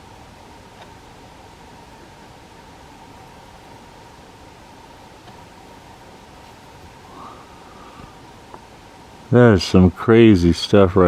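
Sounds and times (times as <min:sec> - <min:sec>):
faint constant tone: 0:00.0 - 0:11.0
steady hiss: 0:00.0 - 0:11.0.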